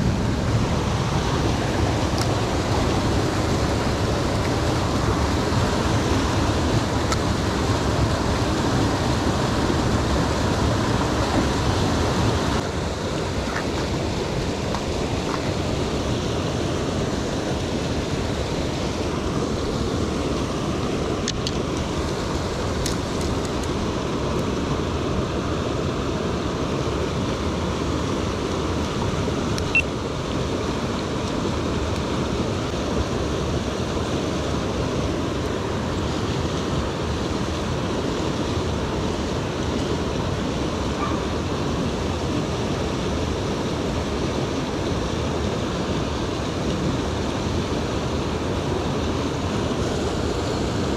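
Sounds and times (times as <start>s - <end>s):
creek water flowing: 0.0s - 50.9s.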